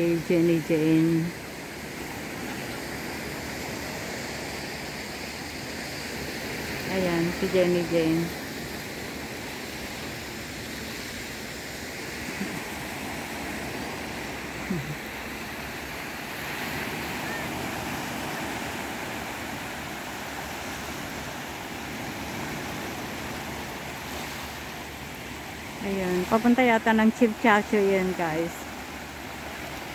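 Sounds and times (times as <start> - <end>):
sea waves washing on shore: 0.0 - 29.9.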